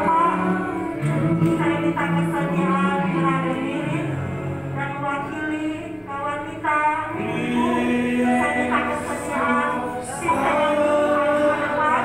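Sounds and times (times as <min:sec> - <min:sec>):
musical accompaniment: 0:00.0 - 0:12.0
voices singing worship song: 0:00.0 - 0:12.0.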